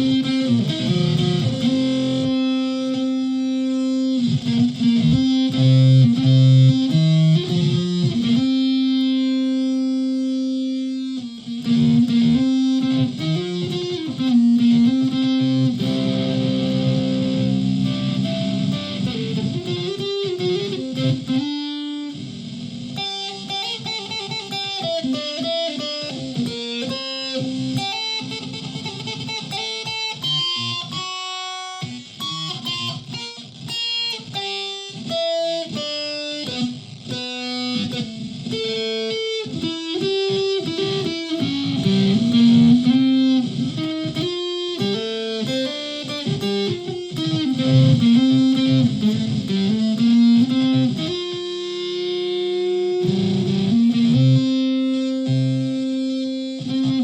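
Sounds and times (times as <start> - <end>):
electric ukulele playing: 0.0 - 22.1, 32.2 - 57.0.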